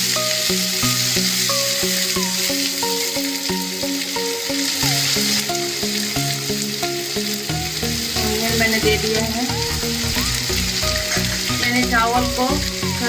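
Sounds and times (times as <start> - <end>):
instrumental music with beat: 0.0 - 13.0
onions sizzling in hot oil: 0.0 - 13.0.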